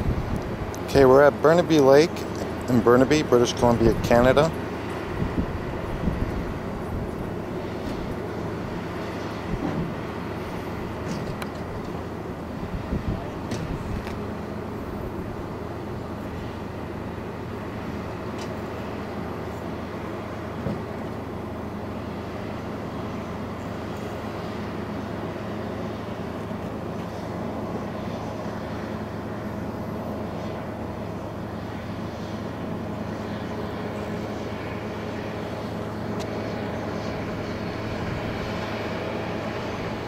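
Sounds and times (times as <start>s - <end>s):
held humming tones: 0.0s - 40.0s
low mechanical drone: 0.0s - 40.0s.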